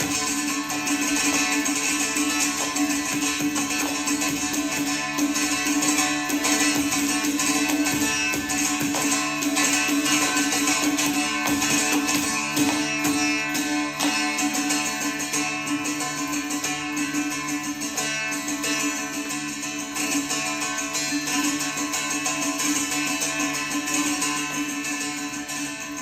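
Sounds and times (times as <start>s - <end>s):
plucked string instrument: 0.0s - 26.0s.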